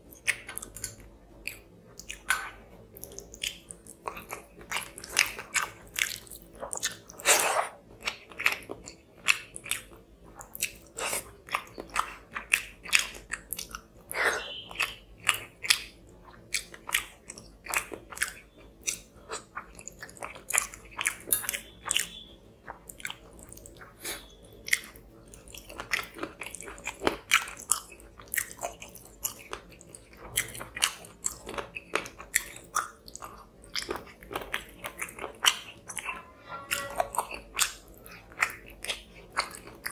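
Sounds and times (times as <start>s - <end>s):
chewing with wet mouth sounds: 0.0s - 36.2s, 37.1s - 39.9s.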